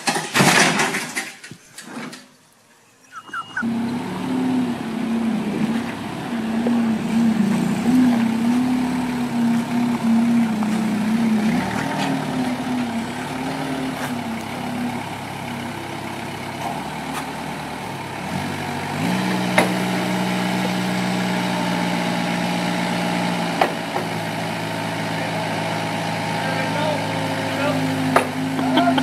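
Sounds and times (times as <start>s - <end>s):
forklift engine running: 2.9s - 29.0s.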